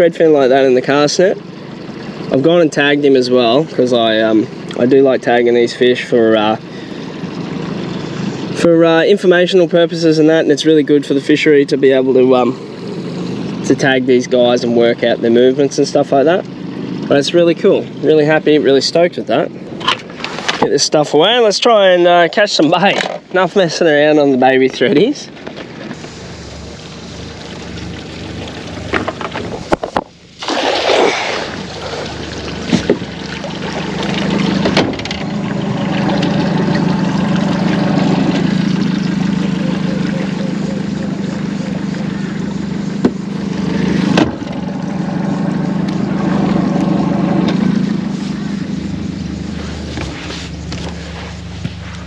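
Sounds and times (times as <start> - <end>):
boat motor humming: 0.0 - 52.0.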